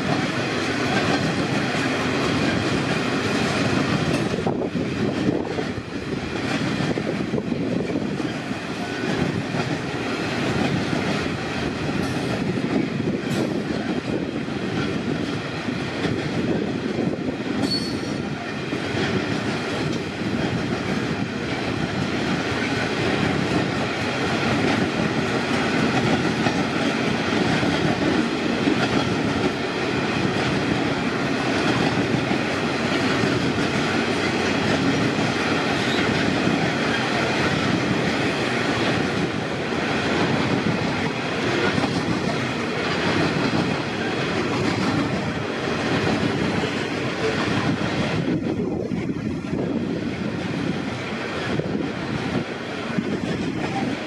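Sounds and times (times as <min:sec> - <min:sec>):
steel wheels rolling on rails: 0:00.0 - 0:54.0.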